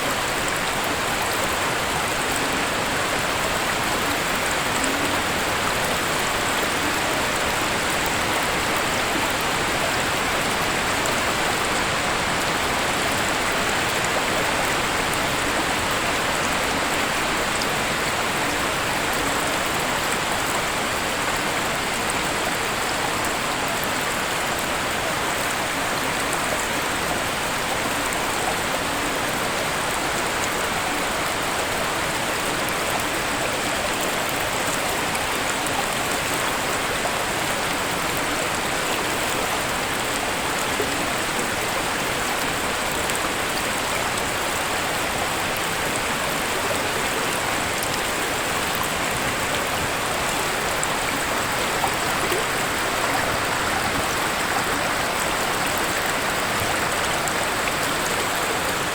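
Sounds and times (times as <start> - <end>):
waterfall rushing: 0.0 - 58.9.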